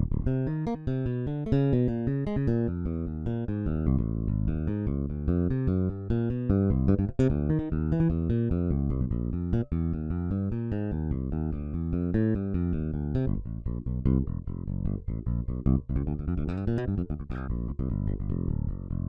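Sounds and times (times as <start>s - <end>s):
electric bass line: 0.0s - 19.0s.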